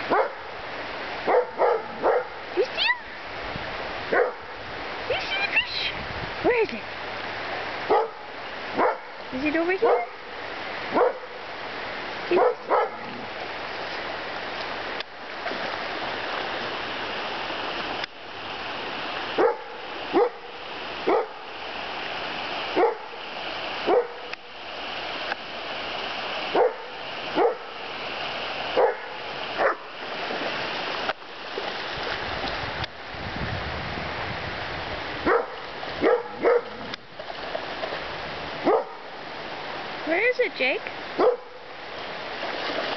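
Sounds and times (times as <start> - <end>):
shallow river water running: 0.0 - 42.9.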